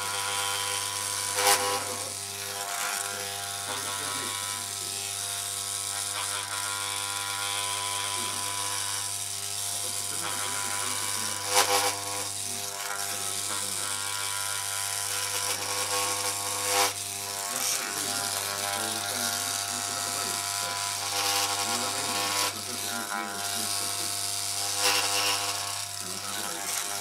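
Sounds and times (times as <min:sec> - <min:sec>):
electric hair clippers buzzing: 0:00.0 - 0:27.0.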